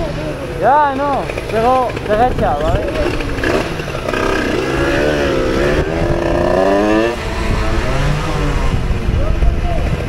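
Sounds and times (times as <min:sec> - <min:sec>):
moped engine accelerating: 0:00.0 - 0:10.0.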